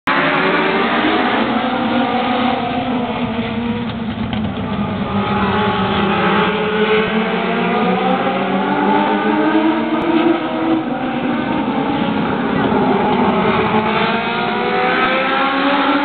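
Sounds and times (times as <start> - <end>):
race car engines passing: 0.1 - 16.0.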